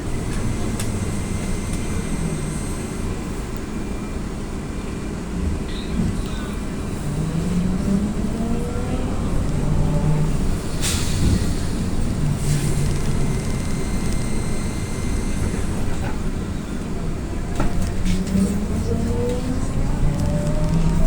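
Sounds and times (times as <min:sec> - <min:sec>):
road rumble: 0:00.0 - 0:21.0.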